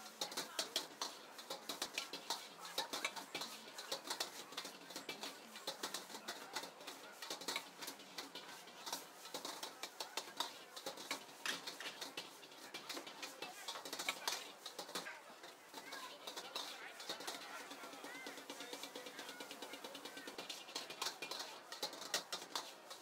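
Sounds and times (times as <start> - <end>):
food sizzling: 0.0 - 23.0
ladle scraping a wok: 0.0 - 23.0.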